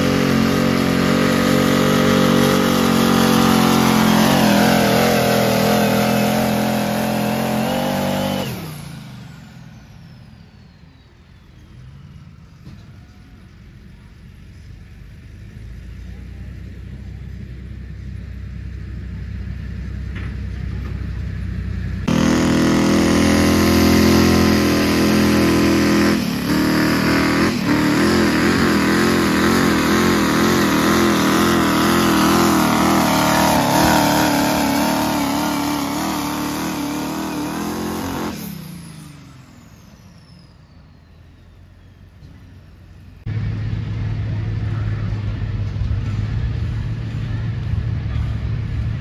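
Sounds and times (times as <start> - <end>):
diesel truck engine at full throttle: 0.0 - 49.0.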